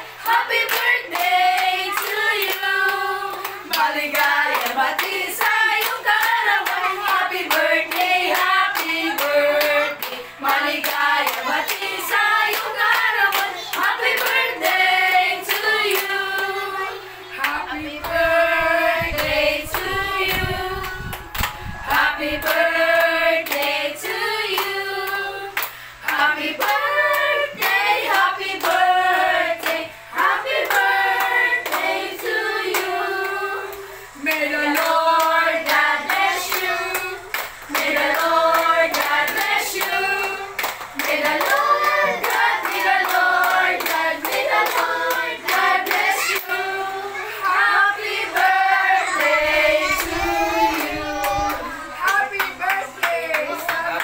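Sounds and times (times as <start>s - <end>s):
hands clapping a steady beat: 0.0s - 16.5s, 19.2s - 33.0s, 33.7s - 46.6s, 48.4s - 54.0s
group singing together: 0.0s - 54.0s.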